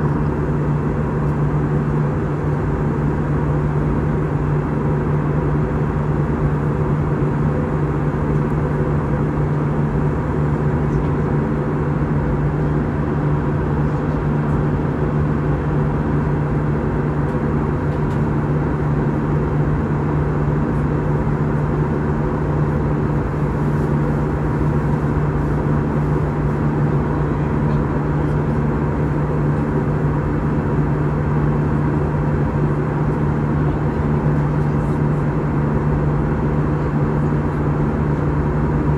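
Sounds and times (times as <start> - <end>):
jet engines in cabin: 0.0 - 38.9.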